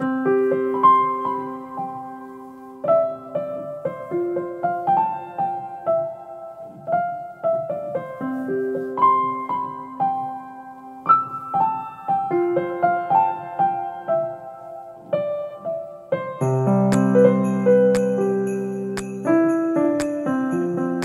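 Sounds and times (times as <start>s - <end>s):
piano melody: 0.0s - 21.0s.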